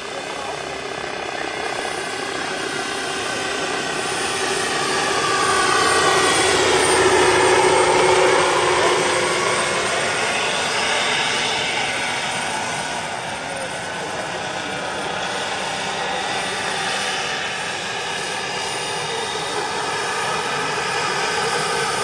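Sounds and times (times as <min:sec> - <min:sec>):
model helicopter turbine whine: 0:00.0 - 0:22.0.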